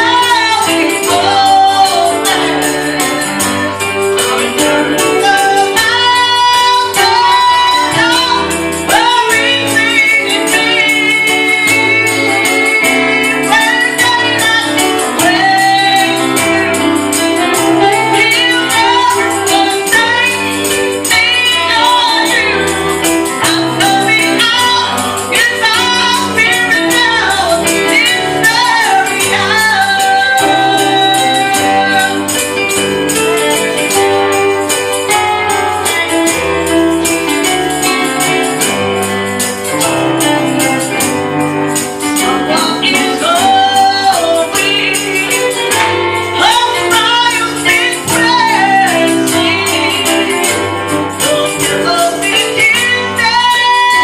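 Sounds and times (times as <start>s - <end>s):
band with bass line: 0.0s - 54.0s
tambourine shaken: 0.0s - 54.0s.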